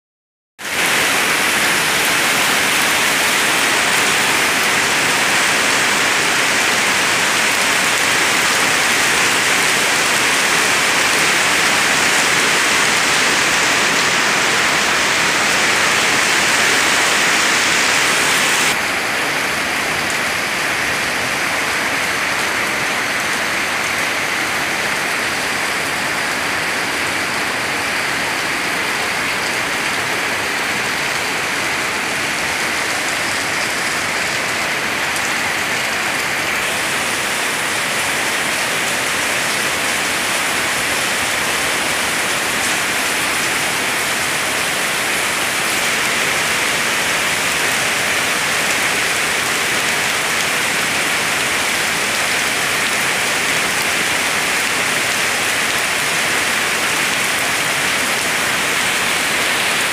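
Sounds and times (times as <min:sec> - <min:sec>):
rain falling: 0:00.6 - 0:59.9.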